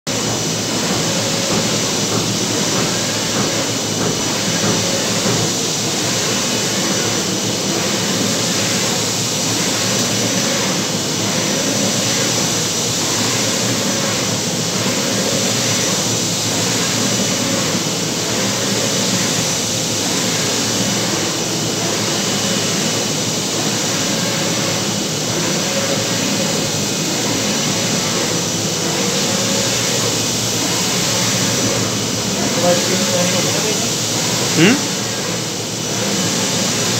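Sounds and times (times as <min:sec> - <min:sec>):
printer fans and motors whirring: 0:00.1 - 0:36.9.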